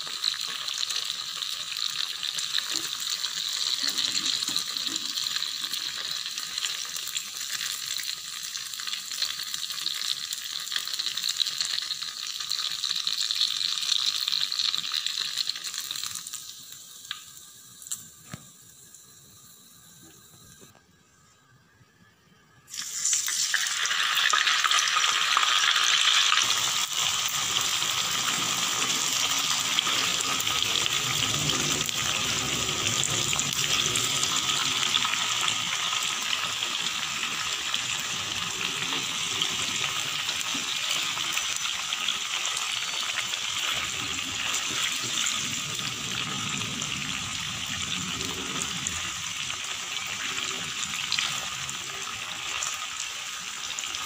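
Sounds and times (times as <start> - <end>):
tofu sizzling in hot oil: 0.0 - 20.7, 22.7 - 54.0.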